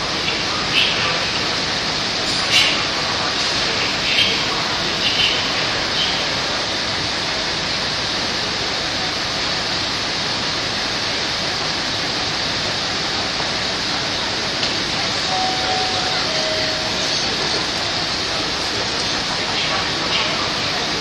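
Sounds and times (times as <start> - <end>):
train rushing hiss: 0.0 - 21.0.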